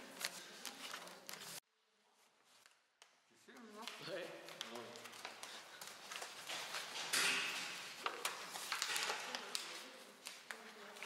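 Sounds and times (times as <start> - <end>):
paper crinkling and crackling: 0.0 - 1.6, 3.7 - 11.0.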